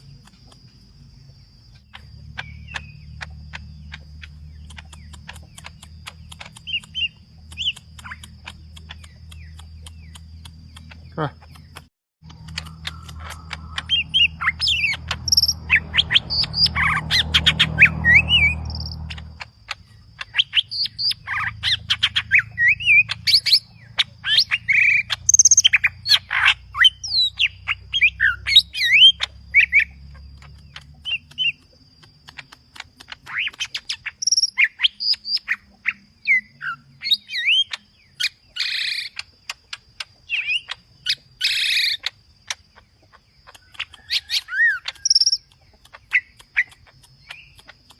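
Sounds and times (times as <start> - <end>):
bird singing rapid varied chirps: 0.0 - 47.9.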